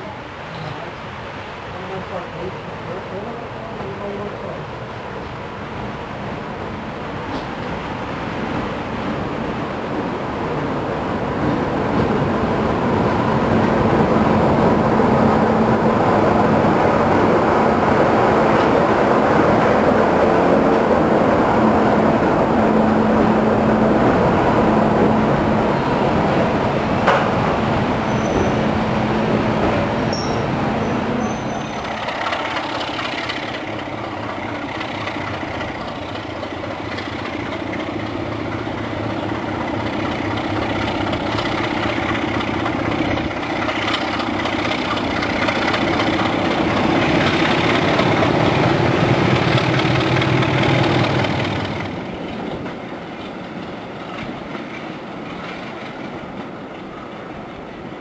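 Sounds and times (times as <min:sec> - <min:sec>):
diesel locomotive engine running: 0:00.0 - 0:58.0
train wheel and rail noise: 0:00.0 - 0:58.0.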